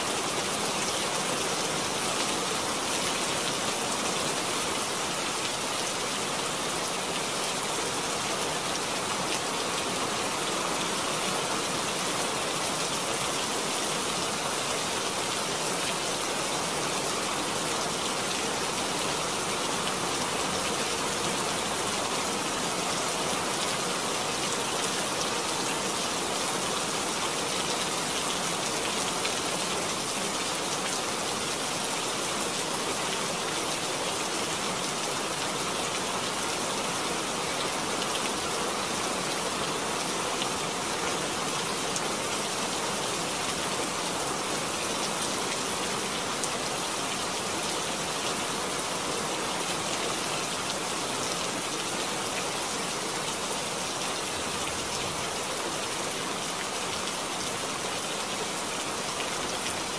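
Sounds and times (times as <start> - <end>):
rain falling steadily: 0.0 - 59.9.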